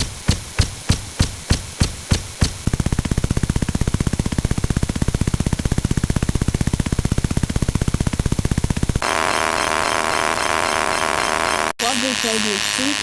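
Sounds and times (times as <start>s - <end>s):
machine-gun fire: 0.0s - 11.5s.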